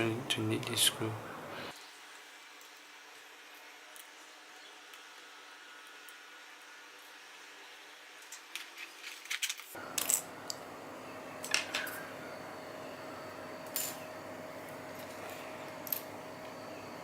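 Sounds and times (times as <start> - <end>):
faint steady hum: 0.0 - 8.4, 9.8 - 17.0.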